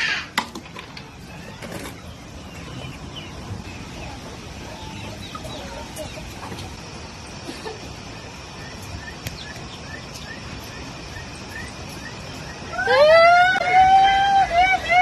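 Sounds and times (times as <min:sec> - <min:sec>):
chickens clucking: 0:00.0 - 0:13.6
steady background hiss: 0:00.0 - 0:15.0.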